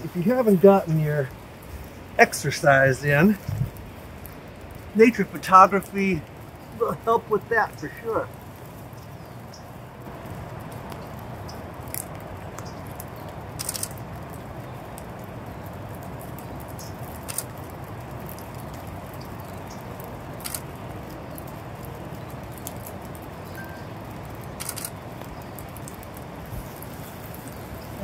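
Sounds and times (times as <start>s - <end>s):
light clicks and crackles: 0.0s - 28.0s
rain pattering: 0.0s - 28.0s.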